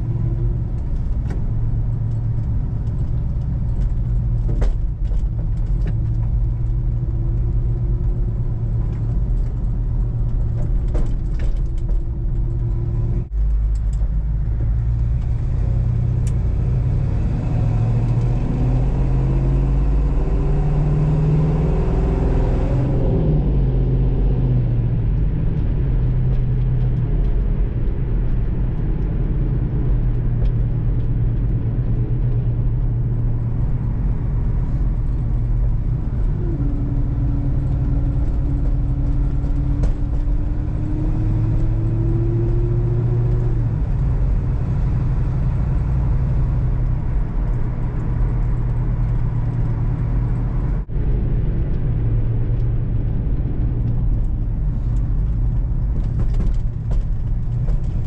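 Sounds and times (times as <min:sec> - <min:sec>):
car engine from inside cabin: 0:00.0 - 0:58.0
road noise: 0:00.0 - 0:58.0.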